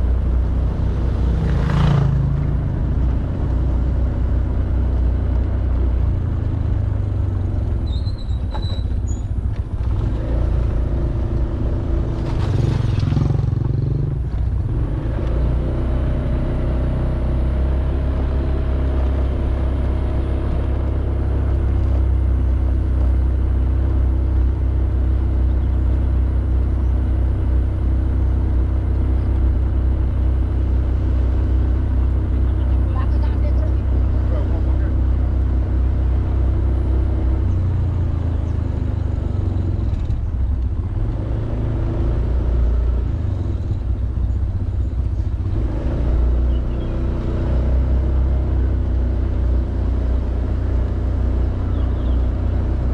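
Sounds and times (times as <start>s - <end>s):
scooter engine cruising: 0.0s - 52.9s
wind and road noise: 0.0s - 52.9s.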